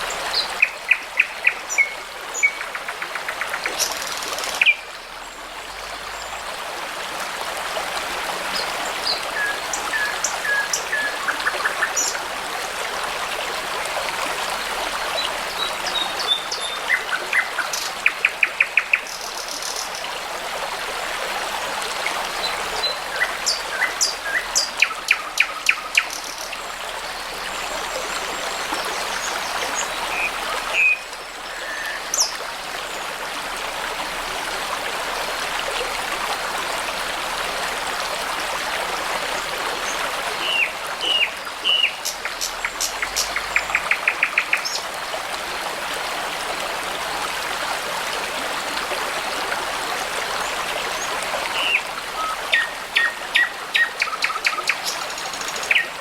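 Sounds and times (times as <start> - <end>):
babbling brook: 0.0 - 56.0.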